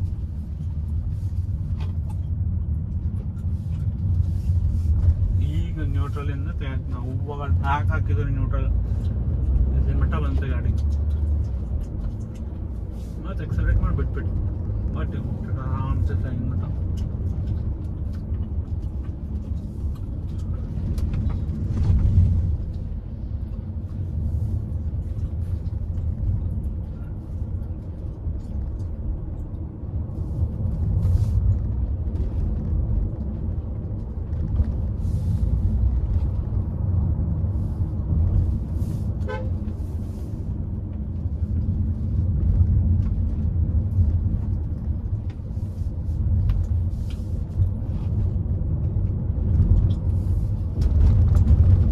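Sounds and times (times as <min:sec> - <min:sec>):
road and engine rumble in car: 0:00.0 - 0:51.9.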